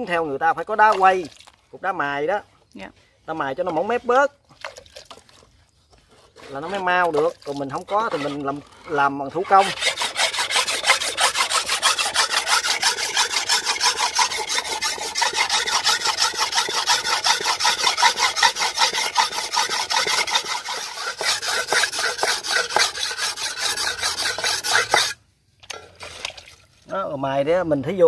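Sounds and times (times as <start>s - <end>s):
knife scraping on wet brick: 3.5s - 26.1s.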